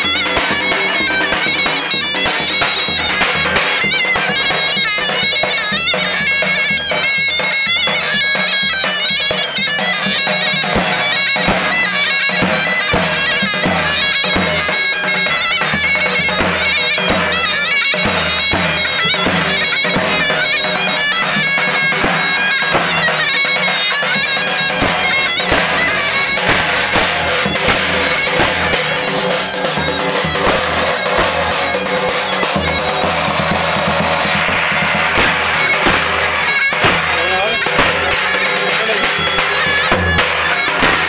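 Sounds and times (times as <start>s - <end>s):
reedy zurna melody: 0.0s - 41.0s.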